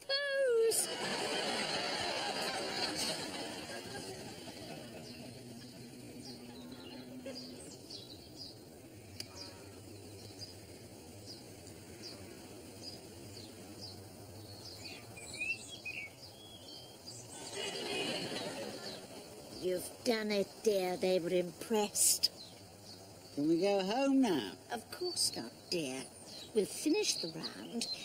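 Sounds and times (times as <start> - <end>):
faint outdoor hum: 0.0 - 28.0
small birds chirping: 0.0 - 28.0.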